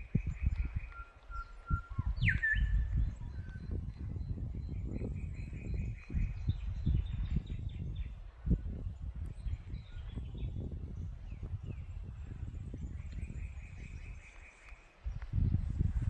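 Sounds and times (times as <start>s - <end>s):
birds calling and trilling: 0.0s - 15.8s.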